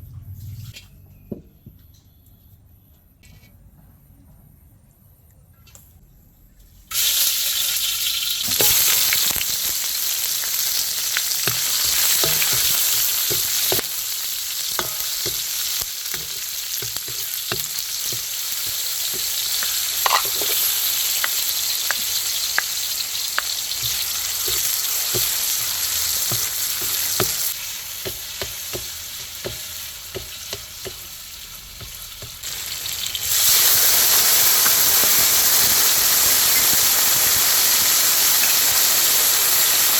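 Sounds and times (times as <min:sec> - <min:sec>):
food sizzling in hot oil: 0:06.9 - 0:39.9.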